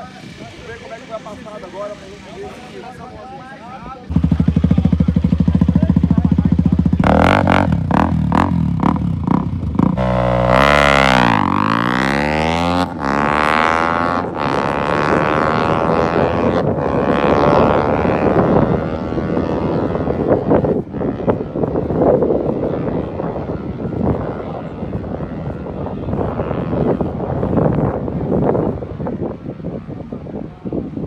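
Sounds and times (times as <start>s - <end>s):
racing motorcycle engine: 4.0s - 31.0s.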